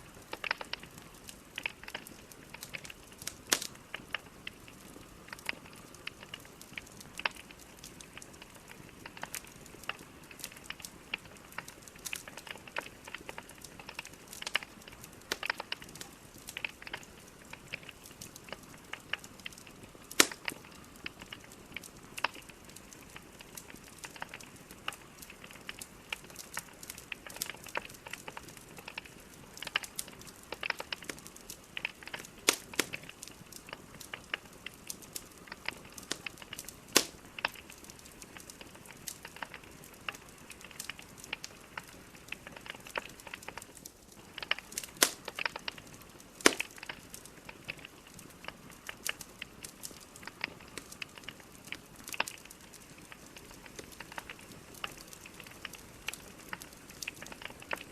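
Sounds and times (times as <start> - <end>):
logs crackling in fireplace: 0.0 - 57.9
sharp pops and snaps: 0.0 - 57.9
soft steady hiss: 0.0 - 57.9.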